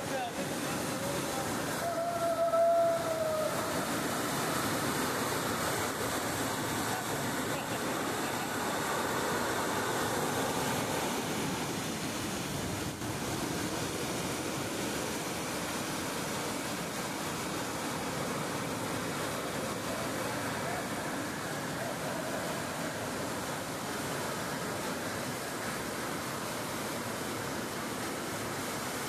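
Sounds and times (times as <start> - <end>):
heavy rain on concrete: 0.0 - 15.3, 16.0 - 29.0
water streaming off metal sheet: 0.0 - 29.0.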